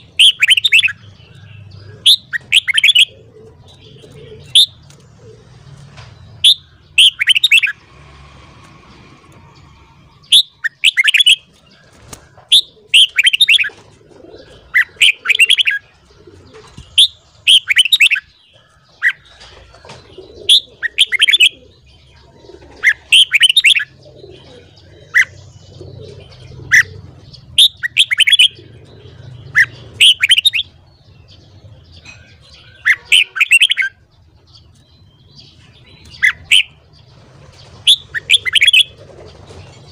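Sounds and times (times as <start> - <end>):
bird singing chattering phrases: 0.0 - 7.8, 9.3 - 39.9.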